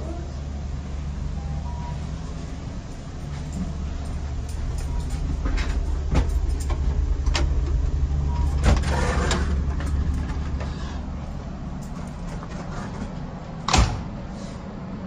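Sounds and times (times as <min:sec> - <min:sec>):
train car low hum: 0:00.0 - 0:15.0.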